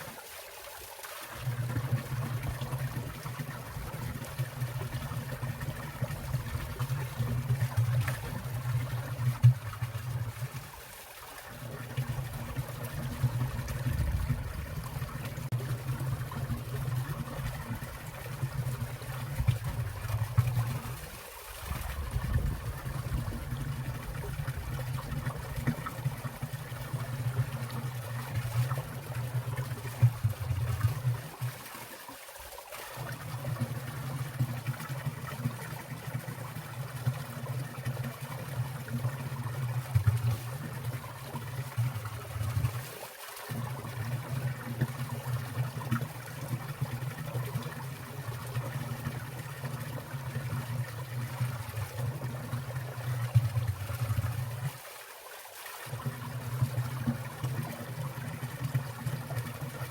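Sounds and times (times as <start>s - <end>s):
water dripping and splashing: 0.0s - 39.0s, 39.6s - 59.9s
stream running and trickling: 0.0s - 59.9s.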